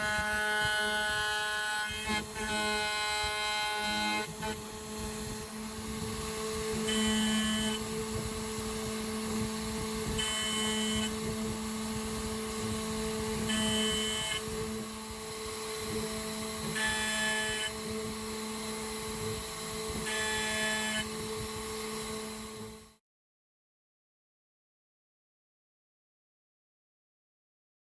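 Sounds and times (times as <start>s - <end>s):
cutter high ringing whine: 0.0s - 23.0s
router spindle humming: 0.0s - 23.0s.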